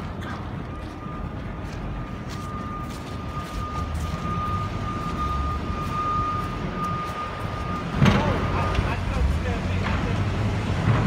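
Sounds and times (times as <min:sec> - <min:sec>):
heavy engine rumbling: 0:00.0 - 0:11.0.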